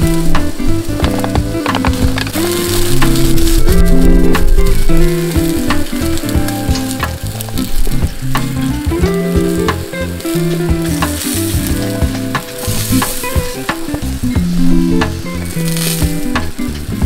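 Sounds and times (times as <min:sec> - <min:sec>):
fat popping and crackling: 0:00.0 - 0:17.0
meat sizzling over charcoal grill: 0:00.0 - 0:17.0
music with low bass line: 0:00.0 - 0:17.0.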